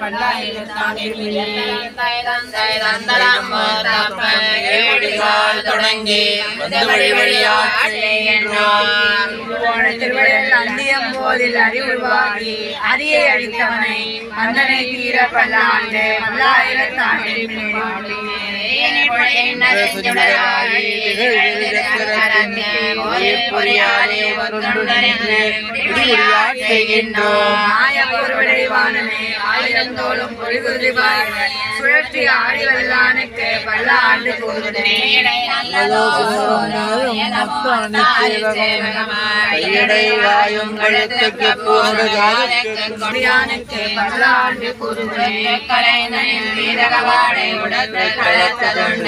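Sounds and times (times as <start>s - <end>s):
group chanting devotional verses: 0.0s - 49.0s.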